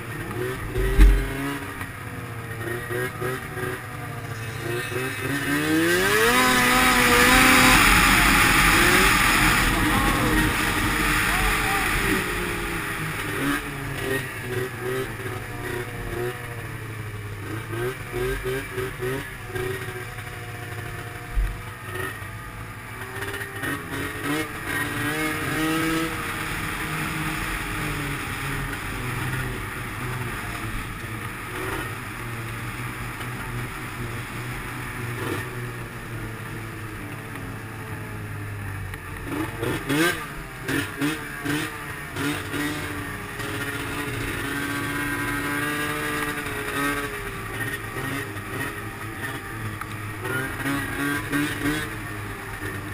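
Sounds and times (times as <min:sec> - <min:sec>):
snowmobile engine revving: 0:00.0 - 0:52.9.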